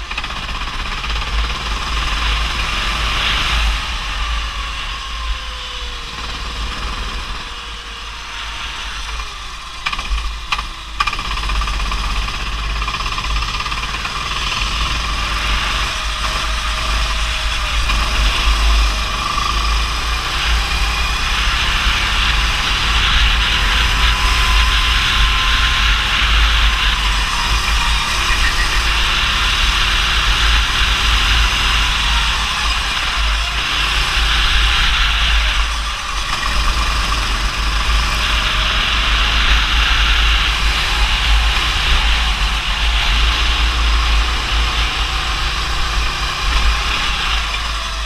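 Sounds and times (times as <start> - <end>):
go-kart engine running: 0.0 - 48.0.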